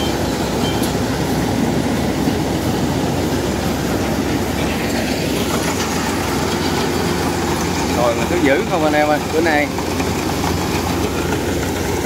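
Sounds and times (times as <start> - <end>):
diesel engine drone: 0.0 - 12.0
threshing machinery clatter: 0.0 - 12.0.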